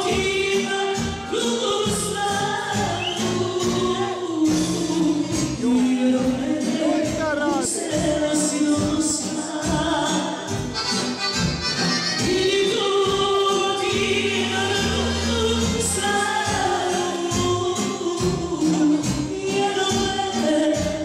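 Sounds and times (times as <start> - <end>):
woman singing into microphone: 0.0 - 10.8, 12.2 - 21.0
amplified backing music: 0.0 - 21.0.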